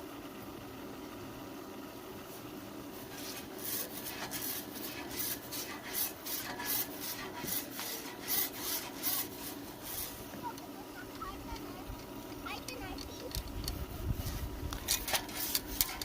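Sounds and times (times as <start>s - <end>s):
faint steady hum: 0.0s - 16.0s
rhythmic scrubbing strokes: 2.9s - 16.0s.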